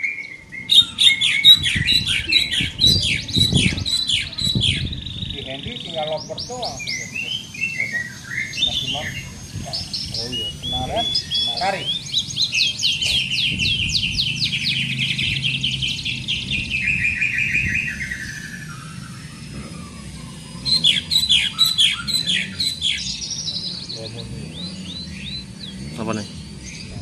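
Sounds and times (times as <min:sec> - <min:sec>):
small parrots chirping: 0:00.0 - 0:27.0.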